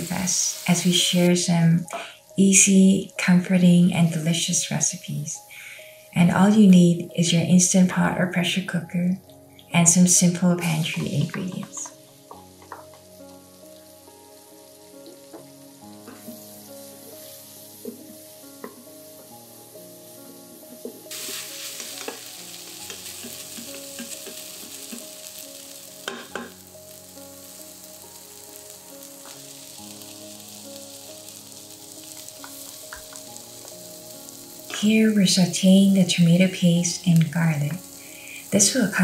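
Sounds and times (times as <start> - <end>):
onions sizzling in oil: 0.0 - 39.0.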